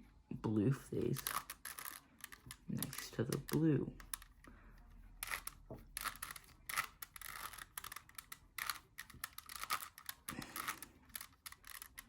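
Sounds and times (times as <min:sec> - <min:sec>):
puzzle cube plastic clicking: 0:01.0 - 0:12.0.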